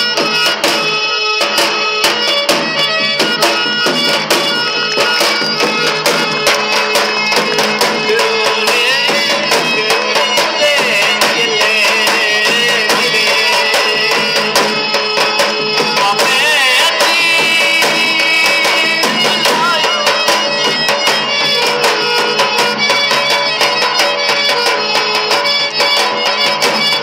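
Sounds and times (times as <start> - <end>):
fast regular drumming: 0.0 - 27.0
wavering high melody: 0.0 - 27.0.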